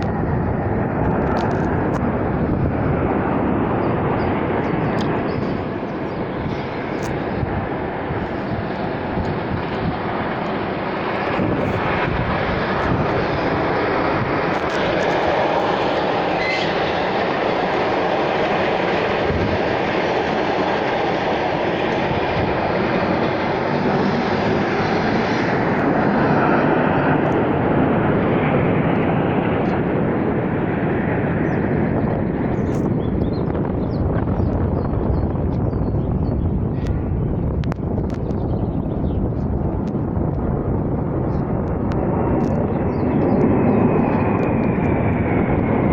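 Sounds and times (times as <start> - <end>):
military aircraft flying over: 0.0 - 45.9.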